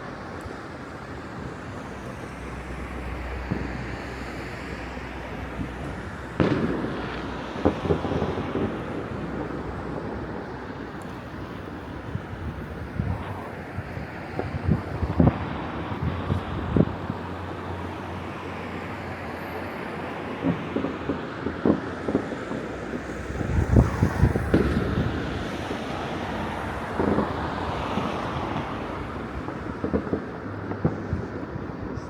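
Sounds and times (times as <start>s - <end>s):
wind rumble on microphone: 0.0s - 32.0s
distant fireworks bangs: 1.4s - 32.0s.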